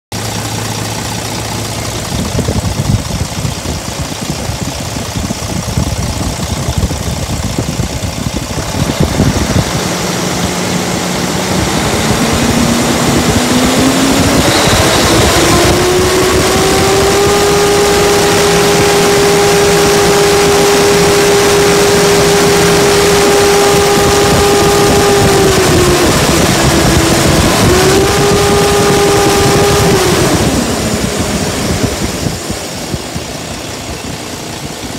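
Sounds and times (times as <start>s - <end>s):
diesel engine revving: 0.1s - 34.9s.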